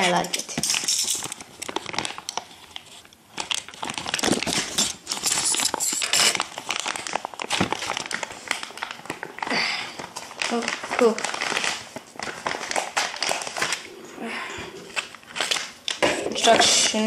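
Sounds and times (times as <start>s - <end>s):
plastic packaging crinkling: 0.0s - 14.1s, 14.7s - 17.0s.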